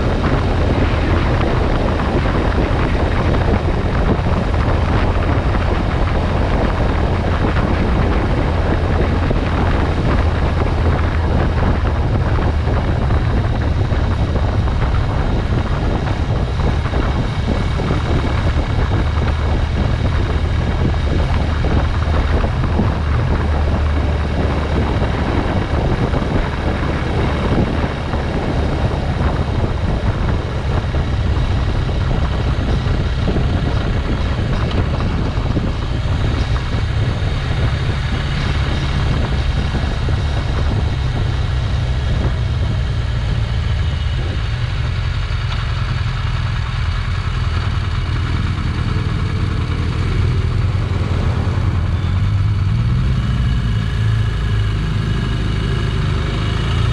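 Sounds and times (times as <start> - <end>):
motorcycle engine: 0.0 - 56.9
wind rushing over microphone: 0.0 - 56.9.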